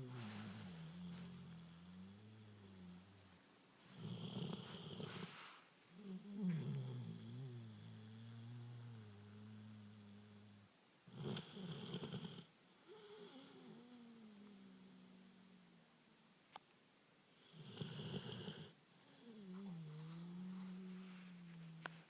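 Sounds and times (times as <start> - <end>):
pet snoring: 0.0 - 15.8, 17.4 - 22.0.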